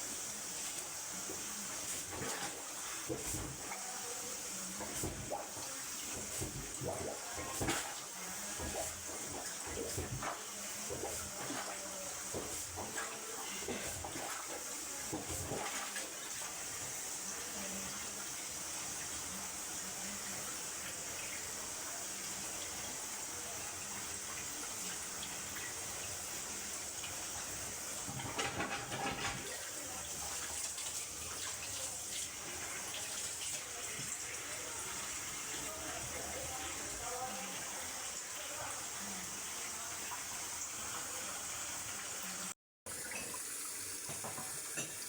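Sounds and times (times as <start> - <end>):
water running through a drain: 0.0 - 45.0.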